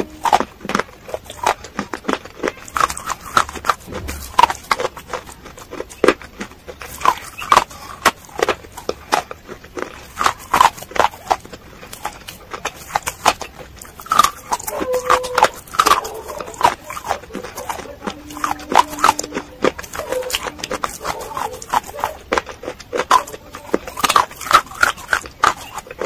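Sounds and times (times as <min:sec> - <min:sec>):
crunching and chewing clay: 0:00.0 - 0:26.0.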